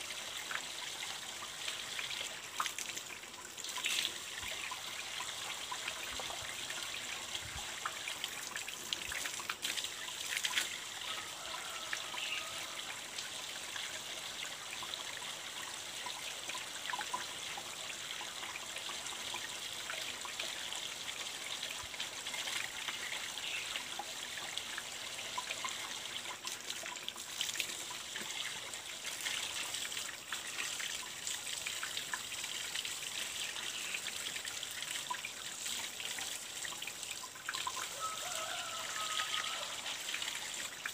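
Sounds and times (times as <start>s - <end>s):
water running from a pipe: 0.0s - 40.9s.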